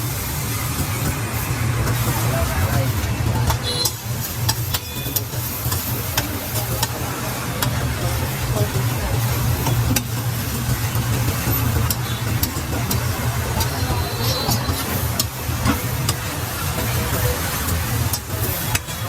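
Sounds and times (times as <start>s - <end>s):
food frying on griddle: 0.0s - 19.0s.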